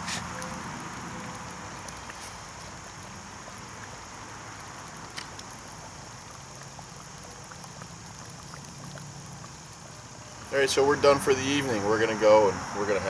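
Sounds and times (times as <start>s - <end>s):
sauce simmering with pops: 0.0s - 13.0s.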